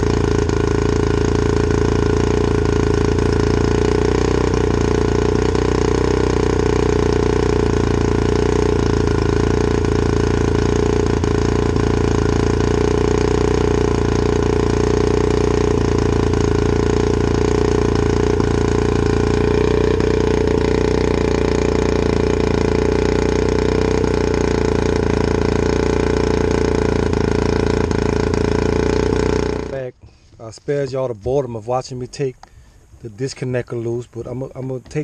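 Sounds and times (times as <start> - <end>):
outboard motor idling: 0.0 - 35.0.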